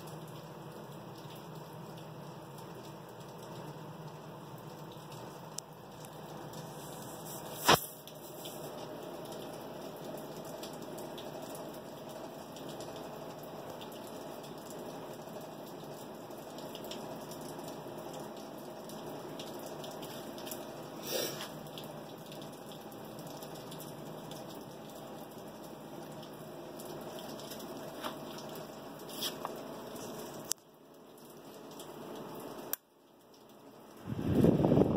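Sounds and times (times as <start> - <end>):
desk fan running: 0.0 - 30.6, 33.9 - 34.9.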